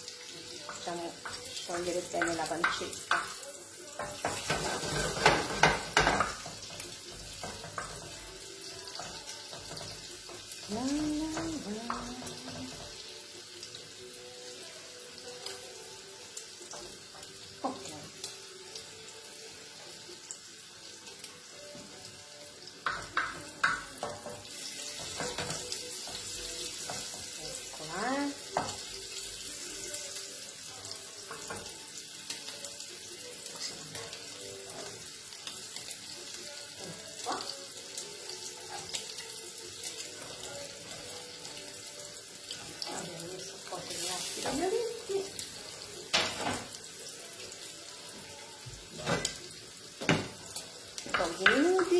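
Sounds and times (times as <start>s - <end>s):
meat sizzling in a frying pan: 0.0s - 51.9s.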